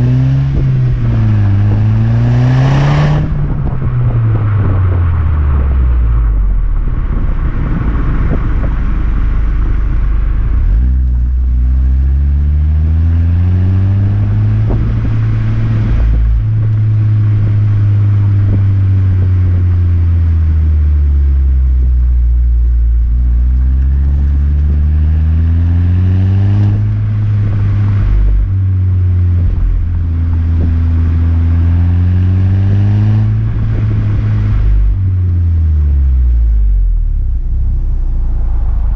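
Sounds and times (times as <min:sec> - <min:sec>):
vehicle exhaust accelerating: 0:00.0 - 0:38.9.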